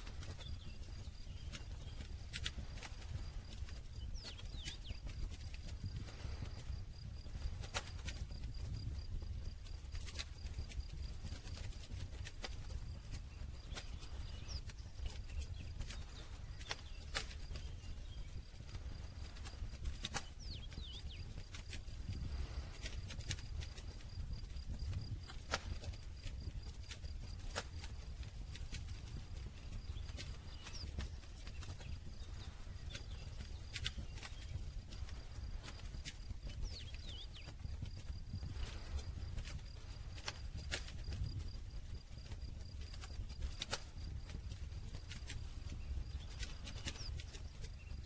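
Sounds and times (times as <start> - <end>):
campfire crackling and popping: 0.0 - 48.0
low rumble of flames: 0.0 - 48.0.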